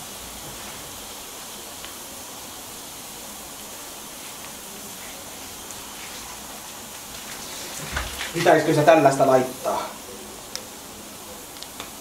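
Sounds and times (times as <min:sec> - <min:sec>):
vegetables sizzling on a grill plate: 0:00.0 - 0:12.0.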